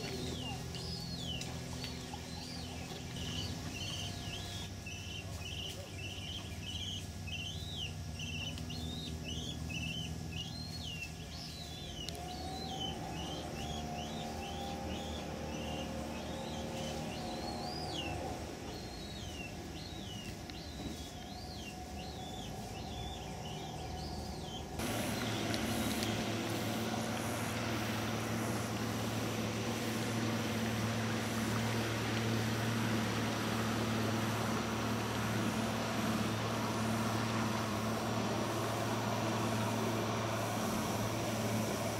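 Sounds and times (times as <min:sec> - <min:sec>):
bird chirping: 0:00.0 - 0:37.3
engine drone with hiss: 0:00.0 - 0:41.9
low motor hum: 0:00.0 - 0:41.9.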